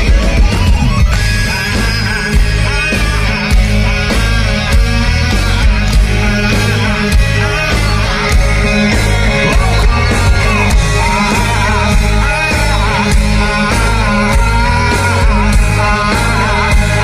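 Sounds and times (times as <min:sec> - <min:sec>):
person singing: 0:00.0 - 0:17.0
rock band playing live: 0:00.0 - 0:17.0.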